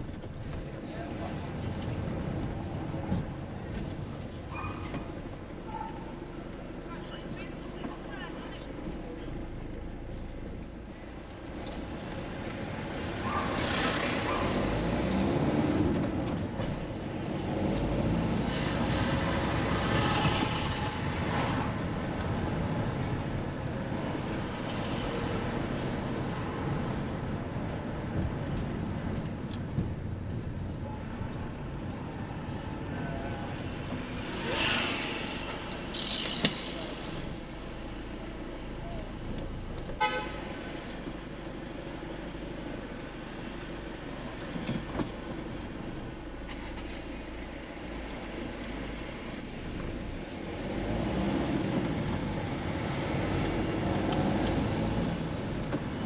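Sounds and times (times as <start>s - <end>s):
road traffic drone: 0.0s - 56.0s
vehicles passing: 0.0s - 56.0s.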